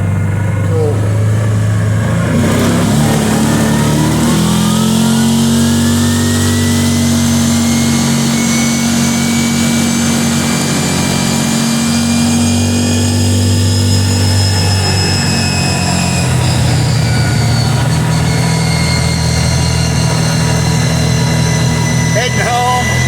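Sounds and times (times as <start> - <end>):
atv engine accelerating: 0.0 - 23.0.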